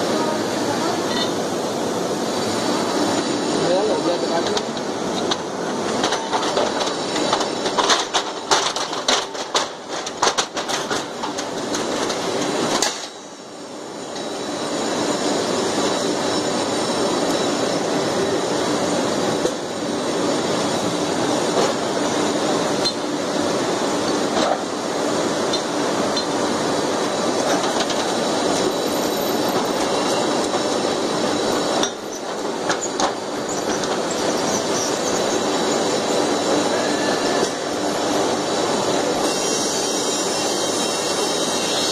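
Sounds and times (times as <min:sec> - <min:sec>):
steady industrial hum: 0:00.0 - 0:41.9.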